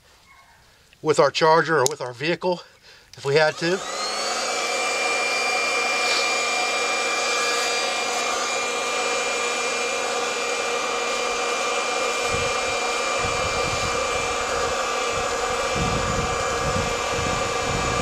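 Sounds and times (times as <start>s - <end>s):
air blower motor whine: 3.2s - 18.0s.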